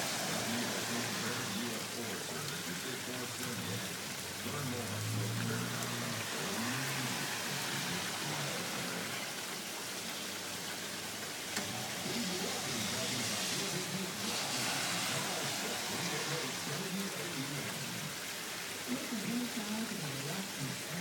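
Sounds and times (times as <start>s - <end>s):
steady rain on pavement: 0.0s - 21.0s.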